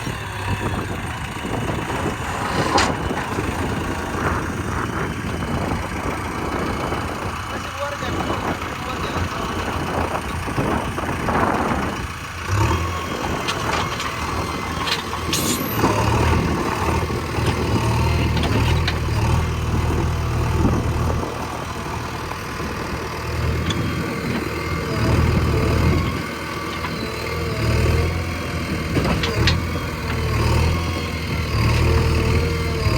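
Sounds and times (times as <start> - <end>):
diesel engine under load: 0.0 - 32.9.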